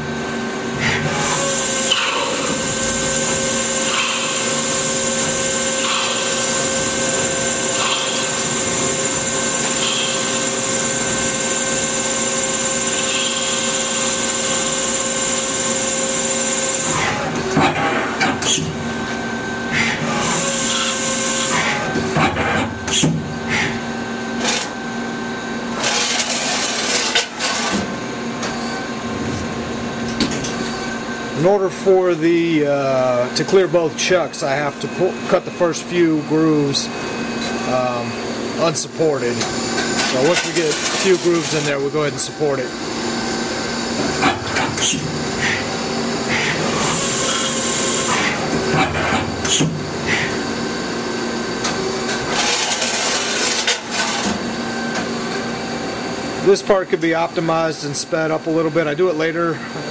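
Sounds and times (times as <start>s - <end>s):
lathe hum with high whine: 0.0s - 59.9s.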